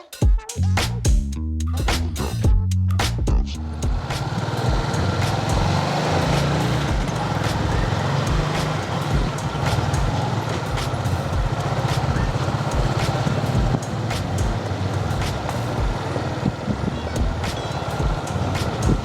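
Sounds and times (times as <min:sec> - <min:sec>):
road and traffic noise: 0:03.6 - 0:19.0
vehicle engine running: 0:03.6 - 0:19.0.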